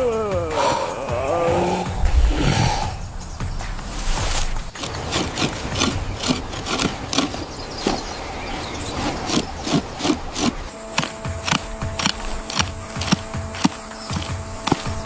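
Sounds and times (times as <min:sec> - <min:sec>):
hand scraping wood: 0:00.8 - 0:15.0.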